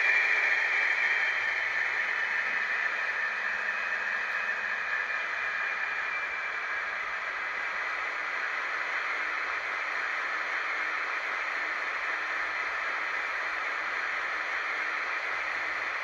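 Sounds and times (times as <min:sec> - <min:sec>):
model locomotive engine sound: 0:00.0 - 0:16.0.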